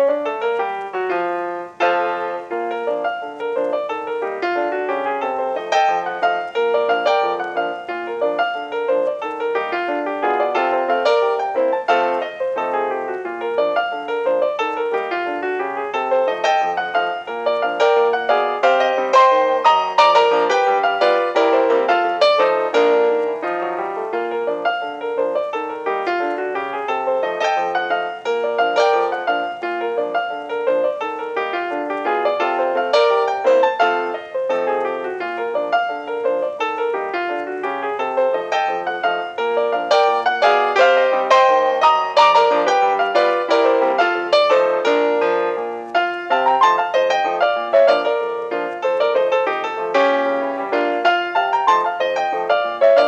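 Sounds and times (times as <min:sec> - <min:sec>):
solo piano busy tune: 0:00.0 - 0:53.0.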